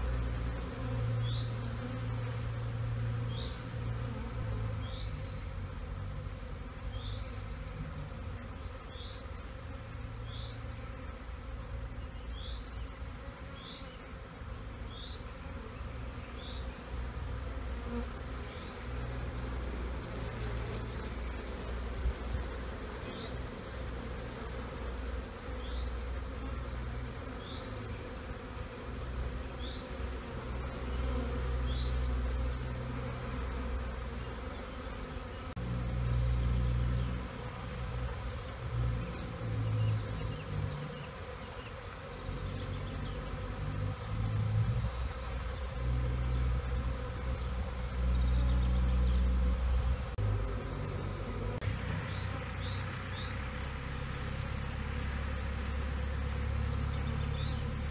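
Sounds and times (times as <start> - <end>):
bee swarm humming: 0.0 - 57.9.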